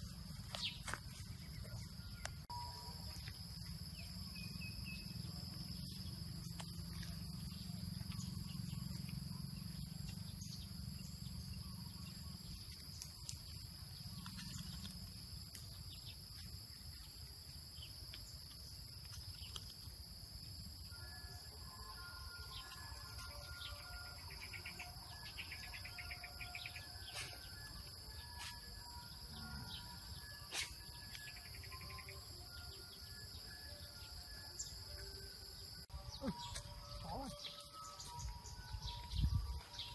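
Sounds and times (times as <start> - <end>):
birds calling and trilling: 0.0 - 19.9, 20.7 - 39.9
insects droning: 0.0 - 39.9.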